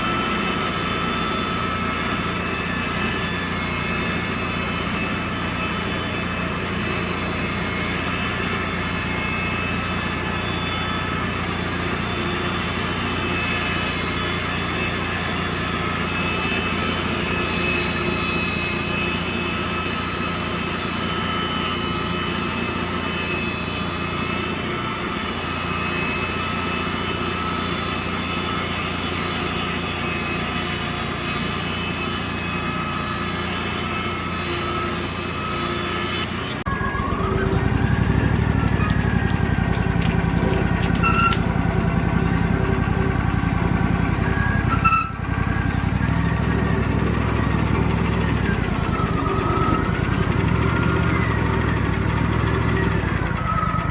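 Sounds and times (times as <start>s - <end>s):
band sawmill droning: 0.0s - 53.9s.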